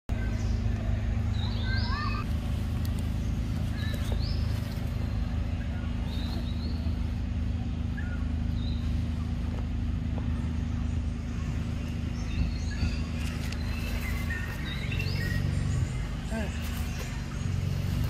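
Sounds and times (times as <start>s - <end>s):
birds chirping: 0.1s - 18.0s.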